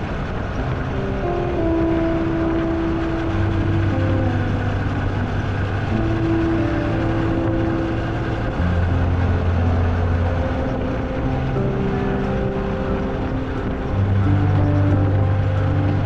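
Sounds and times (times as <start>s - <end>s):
motorcycle engine cruising: 0.0s - 16.0s
wind rush on microphone: 0.0s - 16.0s.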